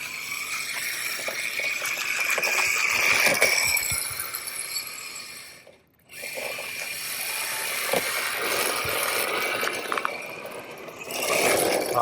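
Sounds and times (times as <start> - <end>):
electric rc car motor whining: 0.0 - 12.0.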